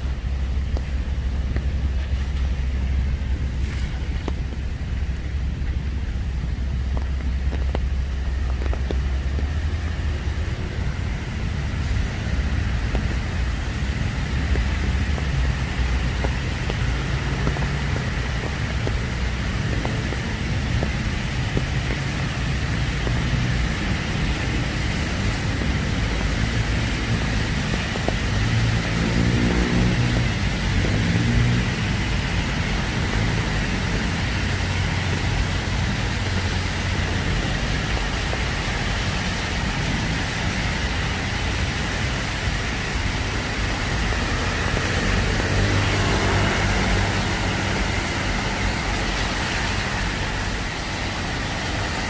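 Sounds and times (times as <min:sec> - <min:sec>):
deep traffic rumble: 0:00.0 - 0:52.0
light rain on umbrella: 0:00.0 - 0:52.0
tyre noise of passing cars: 0:00.0 - 0:52.0.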